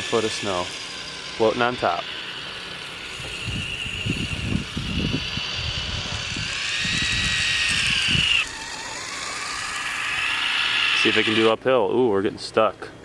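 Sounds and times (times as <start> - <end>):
electric motor whining: 0.0 - 11.6.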